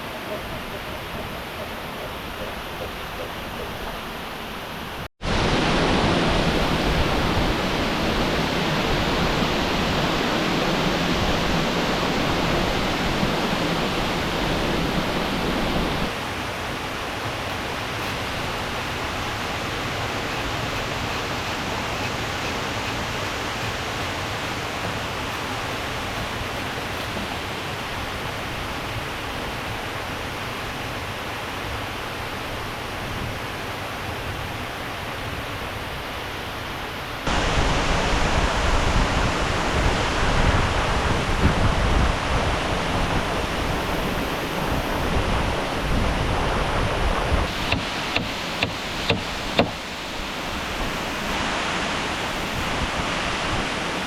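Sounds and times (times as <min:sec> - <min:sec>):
waterfall and rapids rushing: 0:00.0 - 0:54.0.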